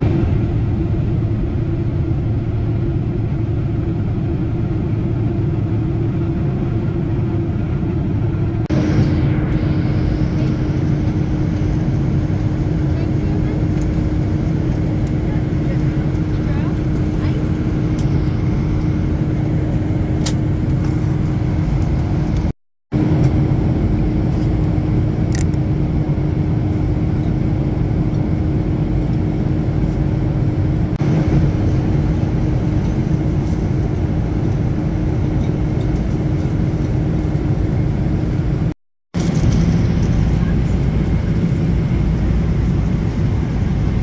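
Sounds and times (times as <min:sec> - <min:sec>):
aircraft cabin engine roar: 0:00.0 - 0:44.0.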